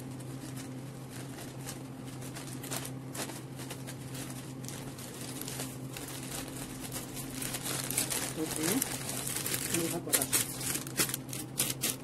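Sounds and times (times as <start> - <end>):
steady low hum: 0.0 - 12.0
wrapping paper rustling: 0.0 - 12.0.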